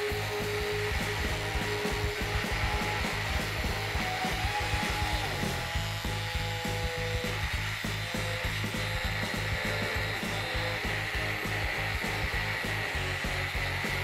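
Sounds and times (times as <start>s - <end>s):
angle grinder motor whine: 0.0s - 14.0s.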